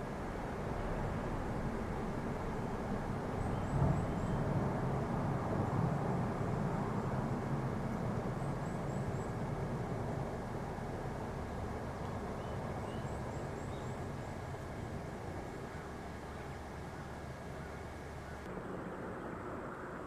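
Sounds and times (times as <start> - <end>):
distant vehicle engine rumble: 0.0 - 20.0.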